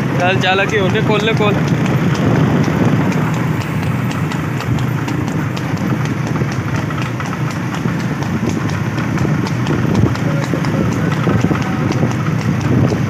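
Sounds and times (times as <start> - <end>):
horse hooves trotting: 0.0 - 13.0
low rumble: 0.8 - 13.0.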